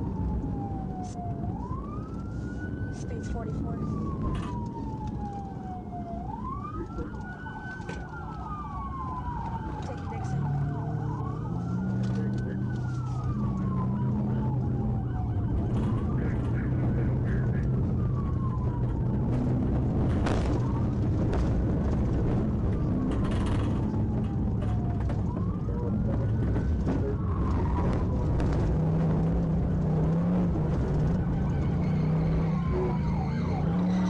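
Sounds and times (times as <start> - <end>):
car engine and road noise: 0.0 - 34.0
police siren wailing: 0.0 - 34.0.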